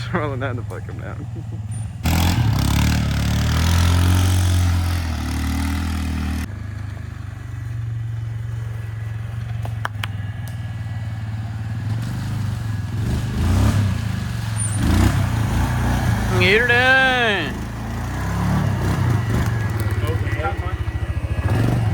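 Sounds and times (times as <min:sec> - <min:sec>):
vehicle engine hum: 0:00.0 - 0:21.9.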